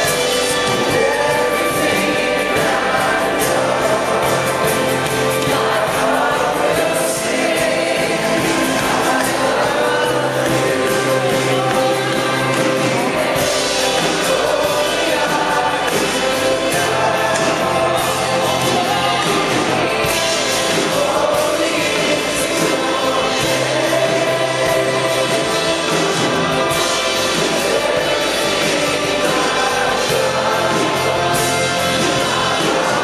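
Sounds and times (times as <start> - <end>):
group singing worship music: 0.0 - 33.0.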